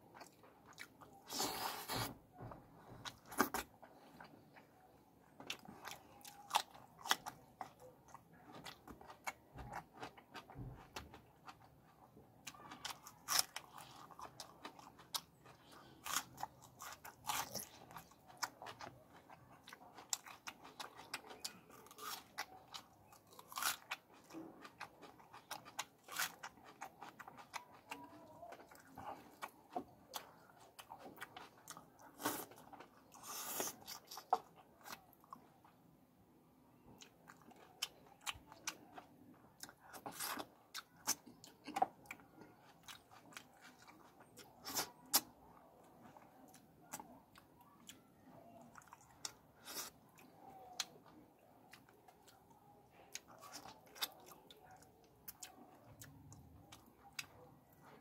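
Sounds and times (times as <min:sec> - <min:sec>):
chewing and biting food: 0:03.0 - 0:35.9, 0:37.0 - 0:58.0.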